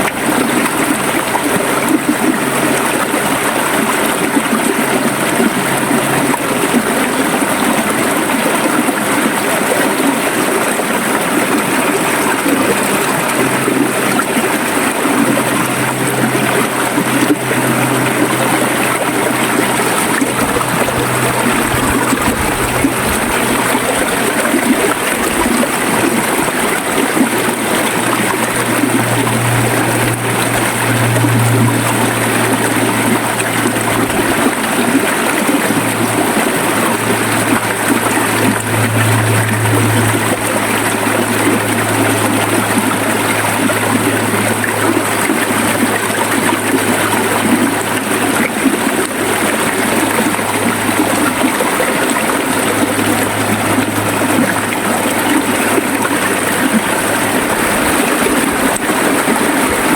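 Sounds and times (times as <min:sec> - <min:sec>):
river water flowing: 0:00.0 - 0:59.9
low steady hum: 0:10.6 - 0:59.9.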